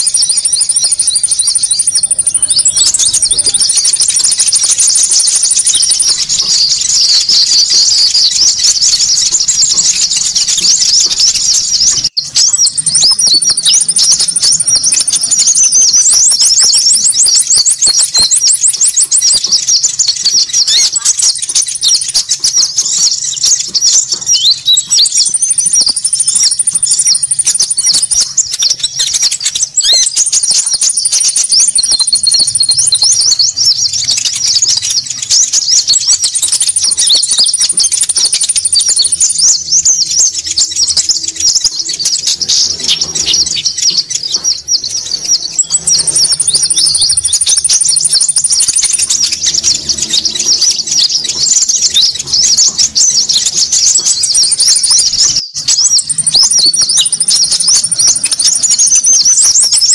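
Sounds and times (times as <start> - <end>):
small birds chirping chorus: 0.0 - 59.9.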